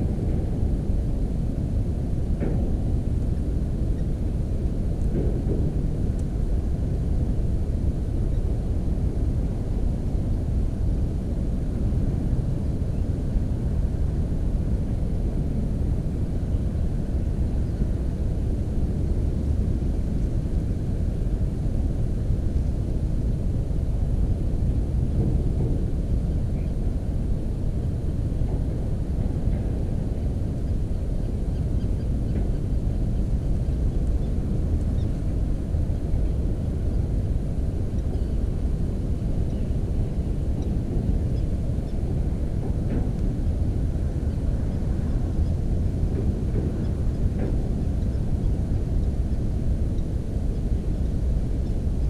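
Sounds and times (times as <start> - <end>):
steady low rumbling: 0.0 - 52.0.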